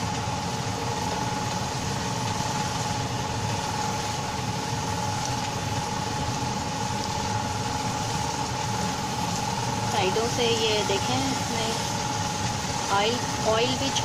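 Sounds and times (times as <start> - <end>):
motor hum with whine: 0.0 - 14.0.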